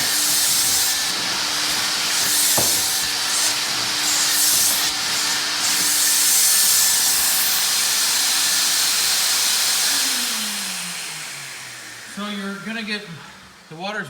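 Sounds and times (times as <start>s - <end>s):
carpet extractor vacuum motor: 0.0s - 13.7s
motor winding down: 0.0s - 13.7s.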